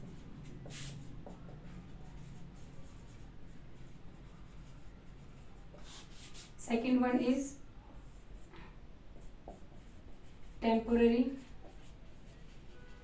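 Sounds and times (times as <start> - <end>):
marker writing on whiteboard: 0.0 - 6.9, 8.0 - 13.0.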